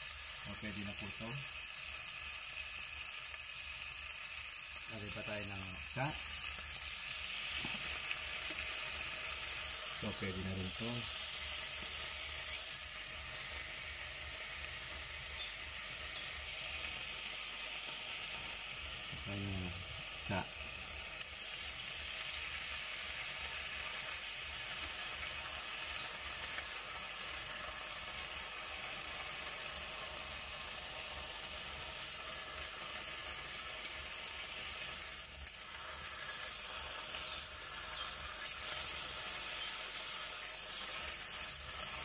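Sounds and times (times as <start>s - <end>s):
ham sizzling in a pan: 0.0s - 42.0s.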